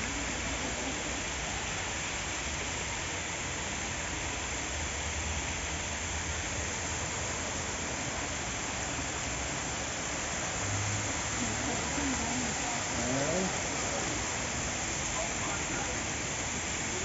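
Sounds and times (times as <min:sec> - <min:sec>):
waterfall splattering: 0:00.0 - 0:17.0.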